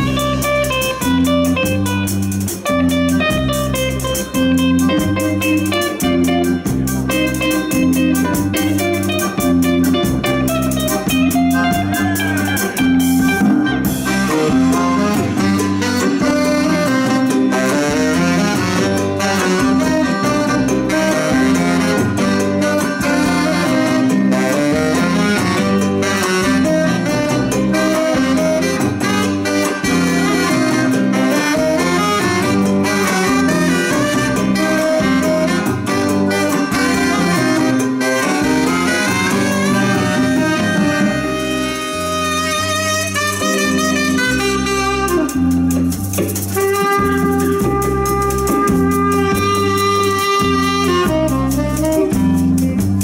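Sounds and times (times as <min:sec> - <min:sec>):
live band instrumental: 0:00.0 - 0:53.0
saxophones playing: 0:00.0 - 0:53.0.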